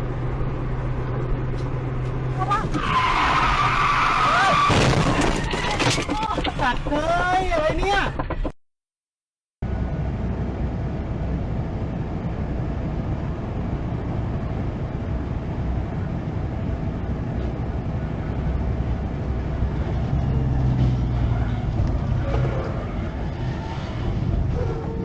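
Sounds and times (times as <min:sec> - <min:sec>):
vehicle engine and road rumble: 0:00.0 - 0:08.6, 0:09.6 - 0:25.0.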